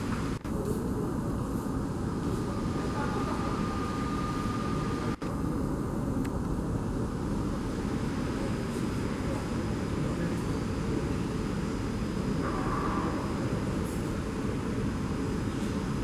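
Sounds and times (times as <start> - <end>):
faint engine whine: 0.0 - 16.0
jet engines low rumble: 0.0 - 16.0.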